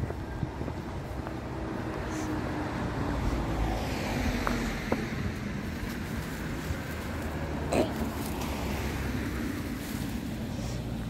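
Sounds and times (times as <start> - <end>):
low wind rumble on microphone: 0.0 - 11.0
car passing by: 1.0 - 11.0.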